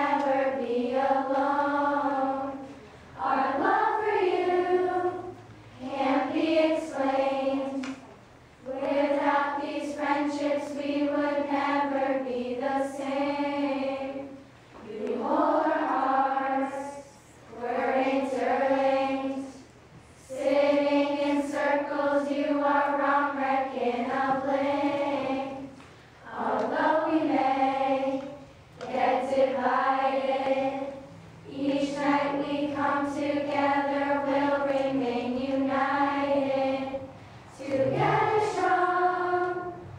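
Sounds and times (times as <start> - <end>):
girls choir singing: 0.0 - 39.9.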